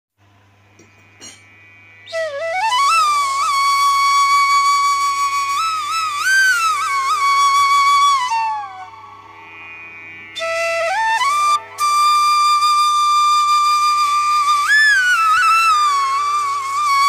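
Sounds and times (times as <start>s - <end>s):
solo flute: 2.0s - 17.0s.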